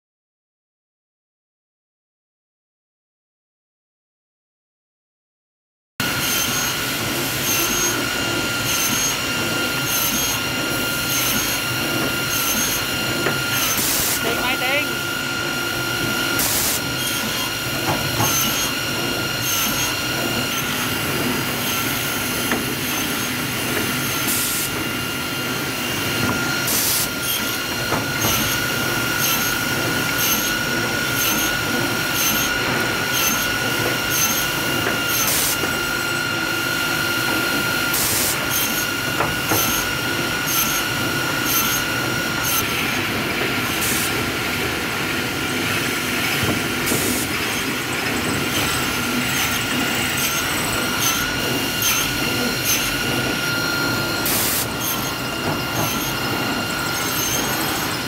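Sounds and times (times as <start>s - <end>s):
saw cutting through boards: 6.0s - 58.0s
saw whining: 6.0s - 58.0s.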